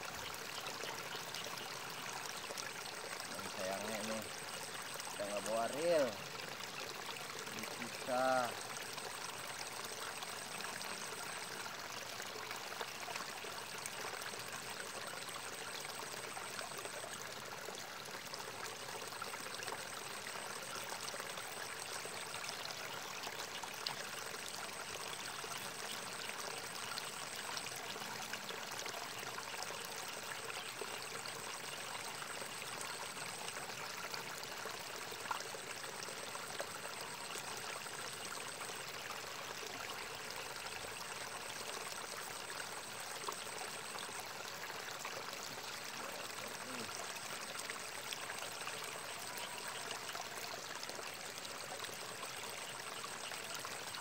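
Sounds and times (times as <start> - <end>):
water trickling in a ditch: 0.0 - 54.0.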